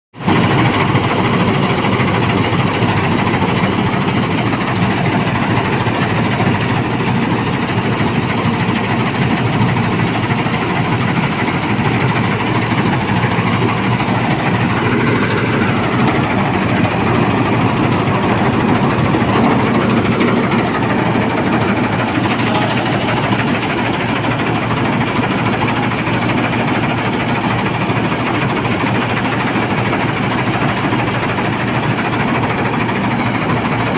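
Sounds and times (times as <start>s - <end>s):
vehicle engine running: 0.2s - 33.9s.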